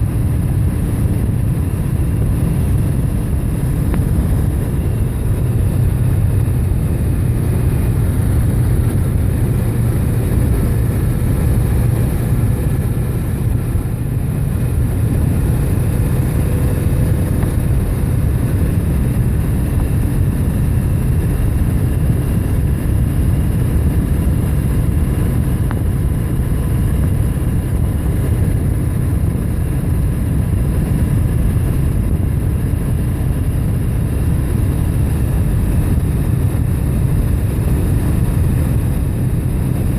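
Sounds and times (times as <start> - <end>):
motorcycle engine drone: 0.0 - 39.9
wind noise: 0.0 - 39.9.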